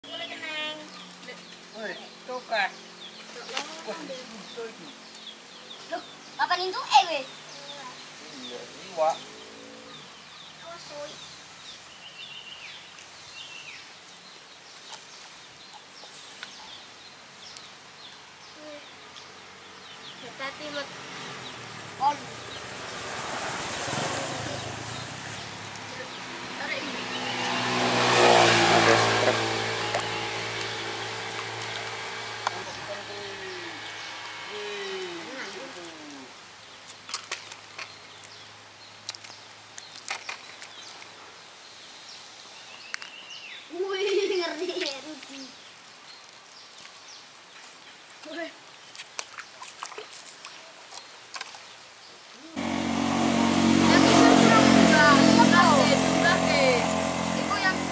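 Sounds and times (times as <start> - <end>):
small birds chirping: 0.0 - 23.2, 23.8 - 57.9.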